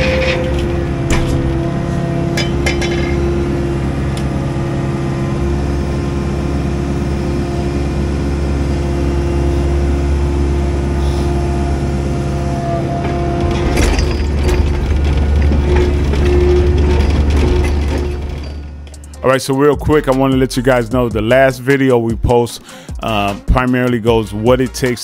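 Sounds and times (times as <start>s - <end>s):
excavator engine and hydraulics: 0.0s - 21.5s.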